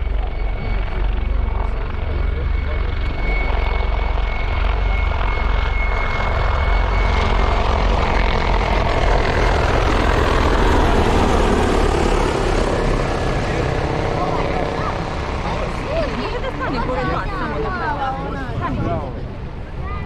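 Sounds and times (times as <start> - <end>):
helicopter rotor beat and engine: 0.0 - 20.0.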